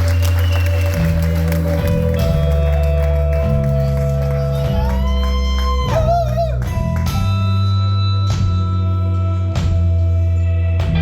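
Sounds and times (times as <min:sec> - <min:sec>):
live band playing: 0:00.0 - 0:11.0
heavy bass line: 0:00.9 - 0:11.0.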